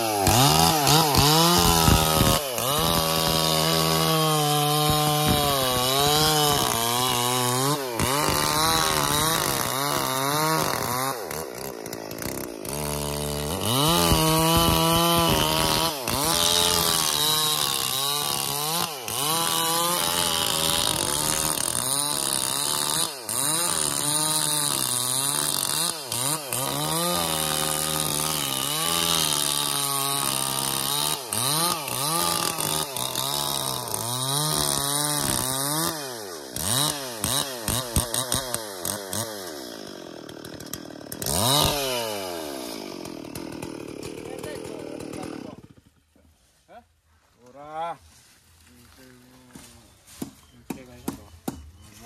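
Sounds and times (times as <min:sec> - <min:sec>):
chainsaw cutting wood: 0:00.0 - 0:46.2, 0:49.4 - 0:51.8.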